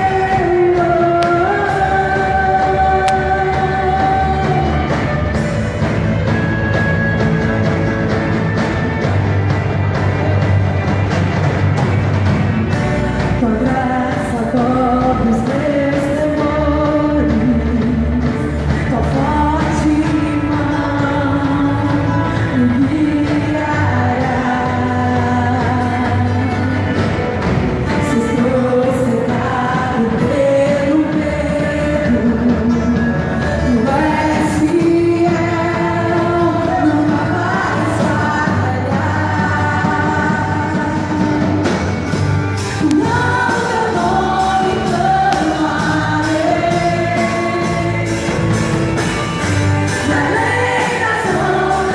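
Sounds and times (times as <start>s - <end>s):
person singing: 0.0s - 6.4s, 13.2s - 51.9s
worship band playing: 0.0s - 51.9s.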